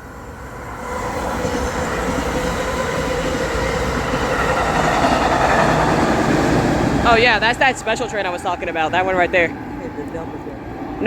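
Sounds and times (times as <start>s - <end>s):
commuter train rumble: 0.0s - 11.0s.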